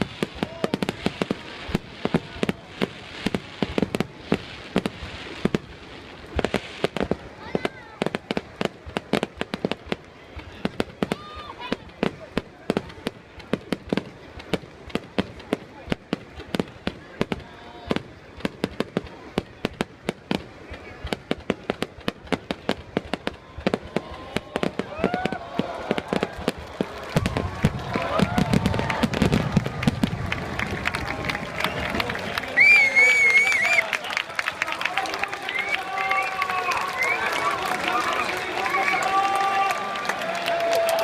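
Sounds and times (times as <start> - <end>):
fireworks bangs: 0.0 - 41.0.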